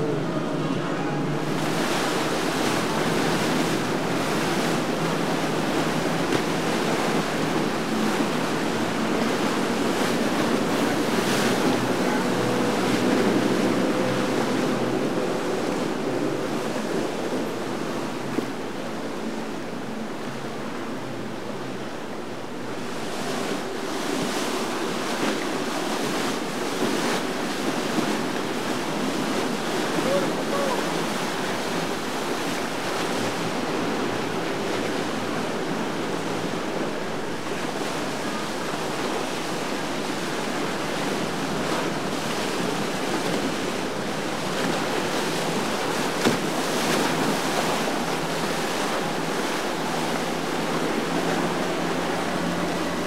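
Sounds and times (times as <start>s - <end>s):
choppy water churning: 0.0s - 53.0s
faint boat engine hum: 0.0s - 53.0s.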